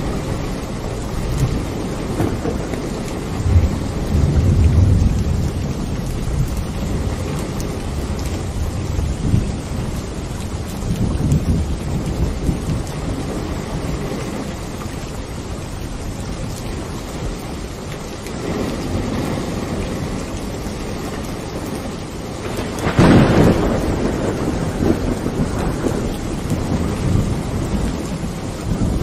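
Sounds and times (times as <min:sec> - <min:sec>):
steady rain: 0:00.0 - 0:29.0
thunder rumbling: 0:00.0 - 0:29.0.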